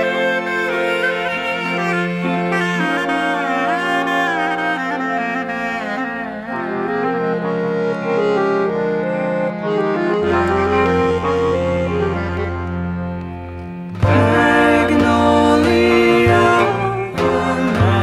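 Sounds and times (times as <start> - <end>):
accordion: 0.0 - 18.0
clarinet melody: 0.0 - 18.0.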